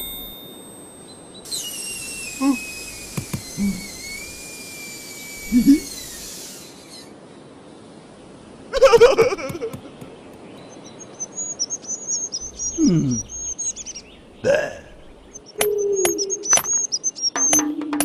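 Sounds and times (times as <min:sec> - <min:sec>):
rapid high bird chirping: 0:00.0 - 0:07.2, 0:08.9 - 0:18.0.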